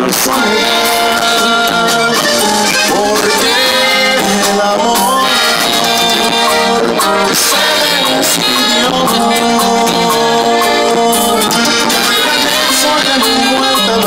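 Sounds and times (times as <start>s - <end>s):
button accordion: 0.0s - 14.0s
live band over loudspeakers: 0.0s - 14.0s.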